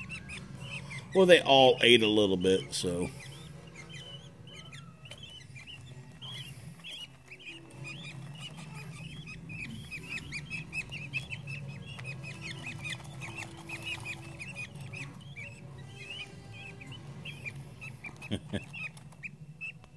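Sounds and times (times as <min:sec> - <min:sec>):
chicks chirping: 0:00.0 - 0:19.9
steady low hum: 0:00.0 - 0:19.9.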